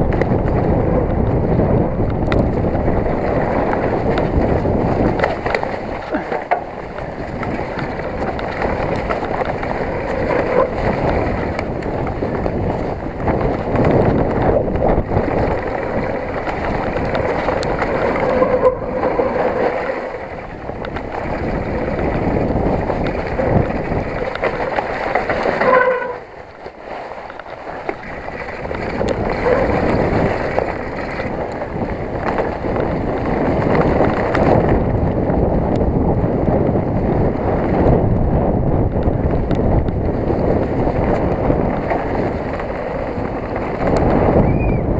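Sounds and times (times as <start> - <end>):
bike rattle and tyre rumble: 0.0 - 44.9
wind on microphone: 0.0 - 44.9.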